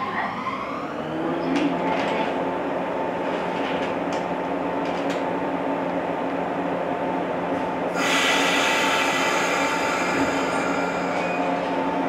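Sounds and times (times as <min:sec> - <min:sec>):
train machinery humming: 0:00.0 - 0:12.0.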